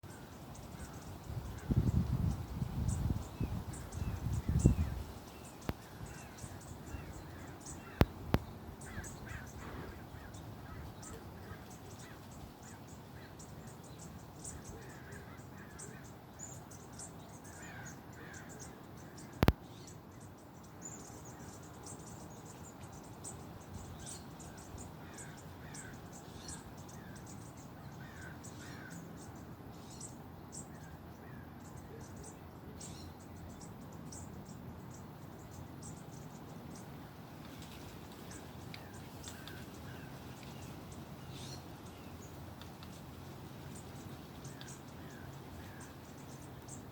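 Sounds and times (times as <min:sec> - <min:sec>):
background hiss: 0:00.0 - 0:46.9
birds calling: 0:00.0 - 0:46.9.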